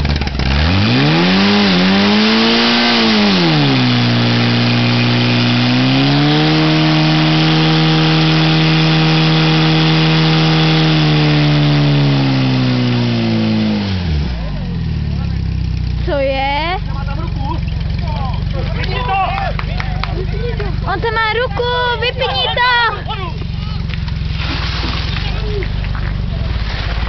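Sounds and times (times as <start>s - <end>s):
fire pump engine running: 0.0s - 27.0s.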